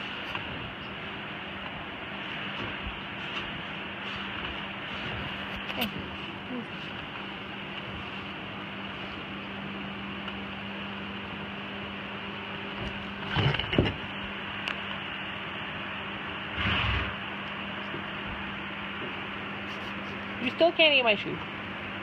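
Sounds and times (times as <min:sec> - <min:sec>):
electric fan humming: 0:00.0 - 0:22.0.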